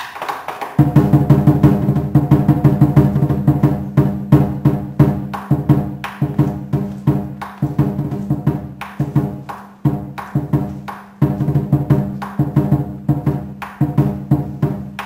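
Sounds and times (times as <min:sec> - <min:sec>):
quick steady drum strokes: 0:00.0 - 0:15.0.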